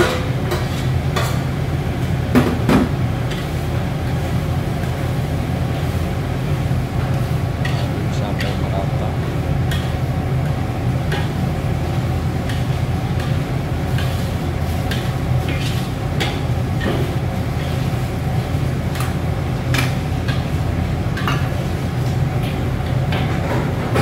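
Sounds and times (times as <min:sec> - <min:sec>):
gas burner flame rushing: 0:00.0 - 0:24.0.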